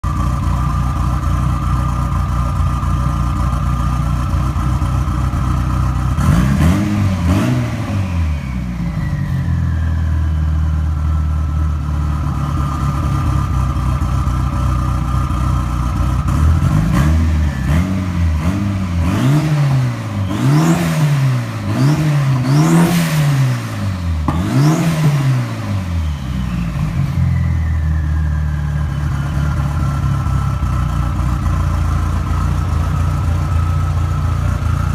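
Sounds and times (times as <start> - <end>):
turbocharged car engine revving: 4.1 - 34.9.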